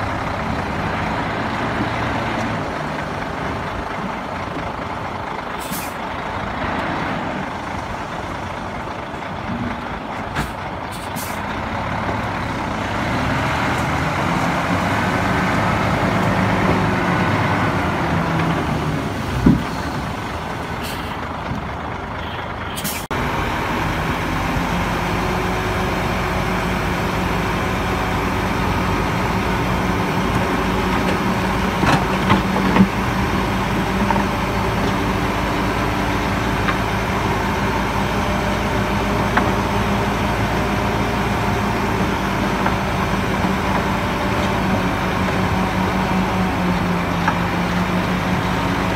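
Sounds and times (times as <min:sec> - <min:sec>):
dump truck diesel engines running: 0:00.0 - 0:48.9.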